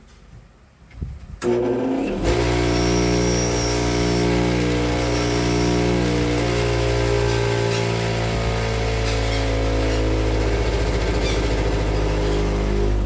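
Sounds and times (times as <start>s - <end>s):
bench grinder motor spinning up: 1.4s - 12.9s.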